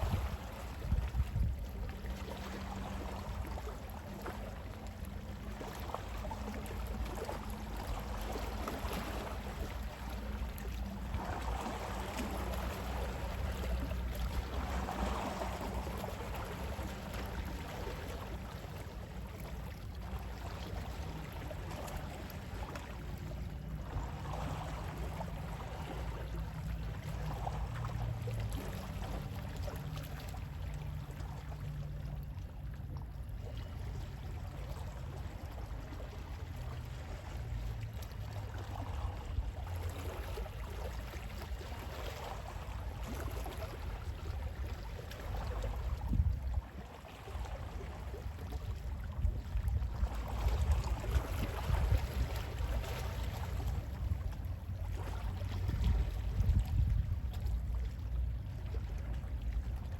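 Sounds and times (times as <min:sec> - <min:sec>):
gentle sea waves washing: 0:00.0 - 0:59.9.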